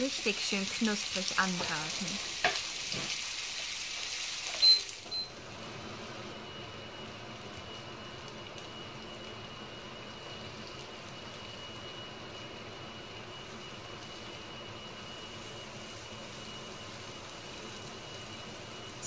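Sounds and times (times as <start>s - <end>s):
tofu sizzling in frying pan: 0.0s - 19.0s.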